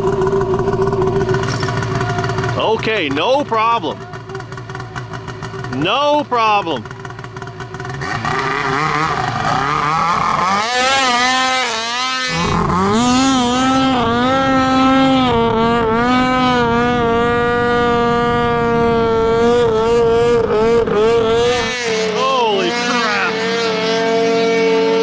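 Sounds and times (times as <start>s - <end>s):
snowmobile engine at high revs: 0.0s - 25.0s.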